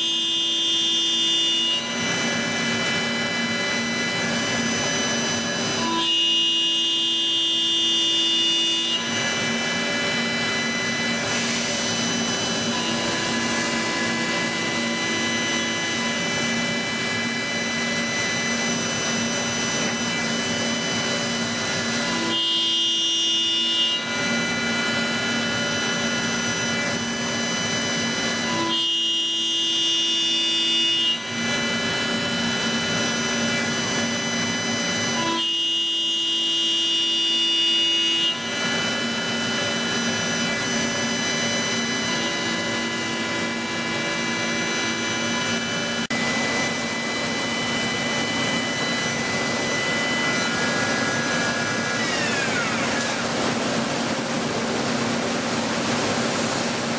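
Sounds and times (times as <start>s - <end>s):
machine tool whining: 0.0s - 56.9s.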